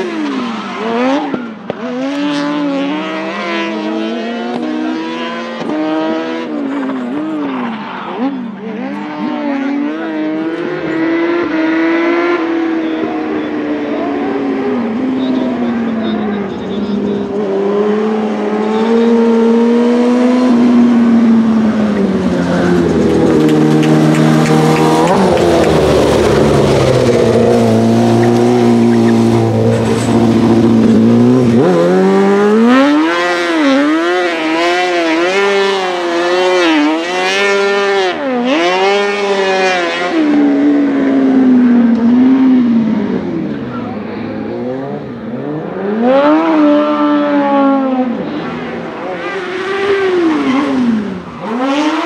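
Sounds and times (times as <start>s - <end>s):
engine revving: 0.0s - 52.0s.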